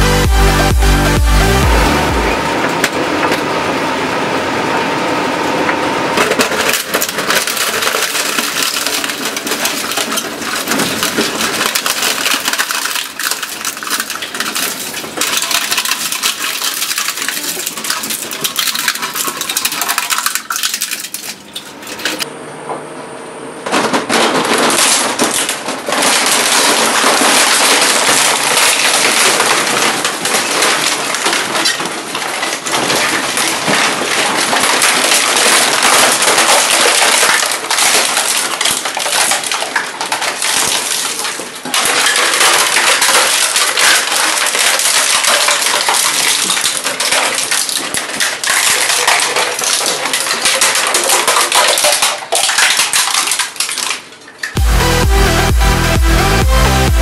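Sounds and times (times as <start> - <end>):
shredder crushing plastic and metal: 5.7 - 22.3, 23.6 - 57.0.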